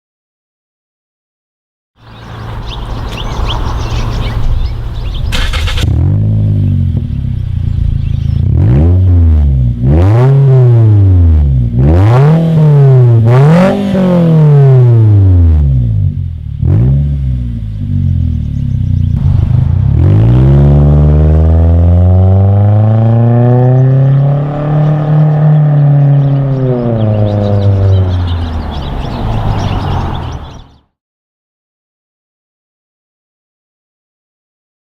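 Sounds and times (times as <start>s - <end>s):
car engine revving: 2.0s - 30.8s.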